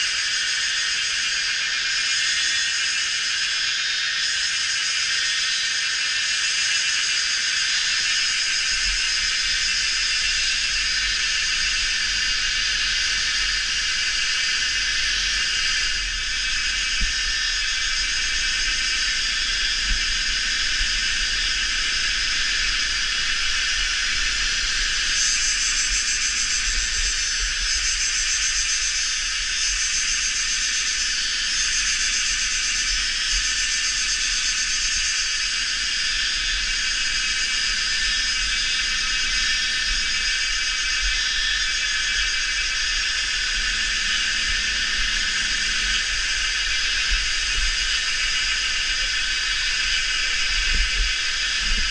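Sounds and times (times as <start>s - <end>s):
cicadas and insects chorus: 0.0s - 51.9s.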